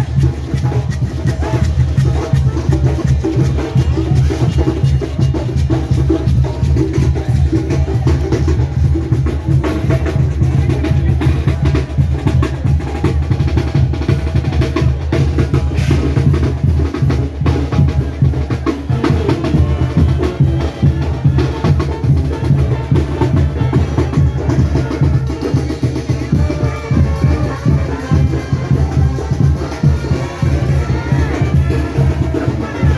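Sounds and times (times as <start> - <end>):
brass band playing: 0.0 - 32.9.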